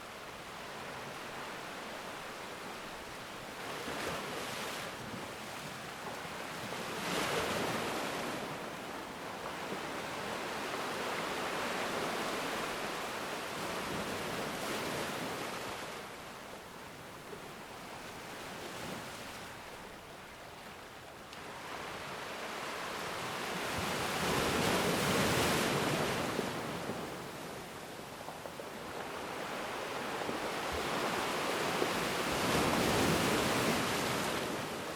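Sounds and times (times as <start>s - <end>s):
ocean waves breaking on shore: 0.0s - 34.9s.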